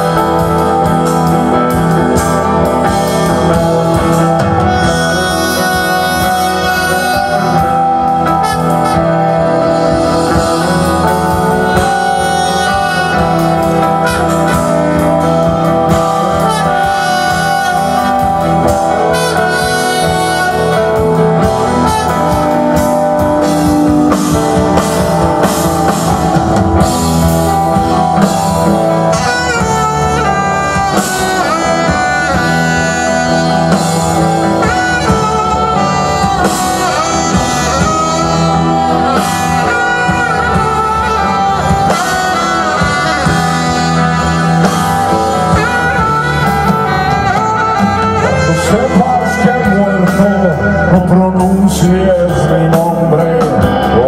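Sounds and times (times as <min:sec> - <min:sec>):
drum kit: 0:00.0 - 0:54.0
electric bass: 0:00.0 - 0:54.0
keyboard: 0:00.0 - 0:54.0
saxophone melody: 0:00.0 - 0:54.0.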